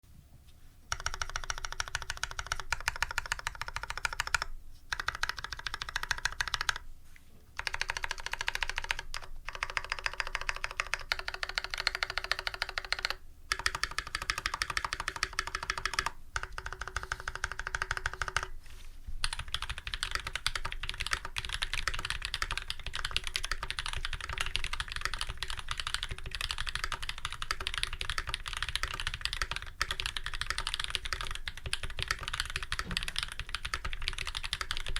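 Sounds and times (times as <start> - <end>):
fast mechanical keyboard typing: 0.9 - 6.8, 7.6 - 18.5, 19.2 - 34.9.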